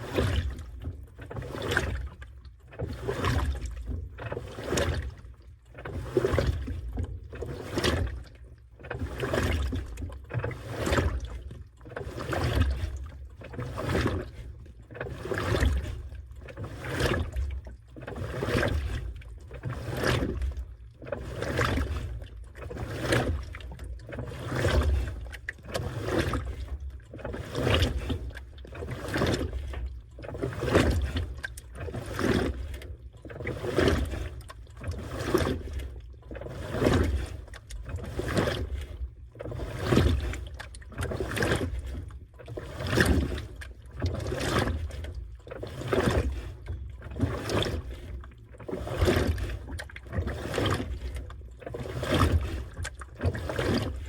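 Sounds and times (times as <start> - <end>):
washing machine sloshing: 0.0 - 54.0.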